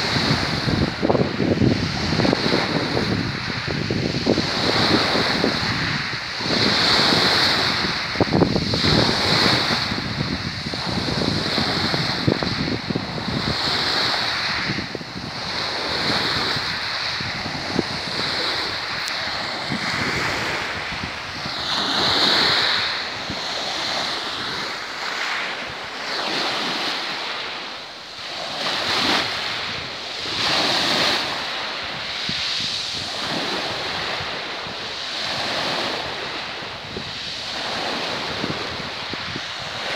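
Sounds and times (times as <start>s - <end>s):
waves washing over pebbles: 0.0s - 39.9s
wind rumbling on microphone: 0.0s - 39.9s.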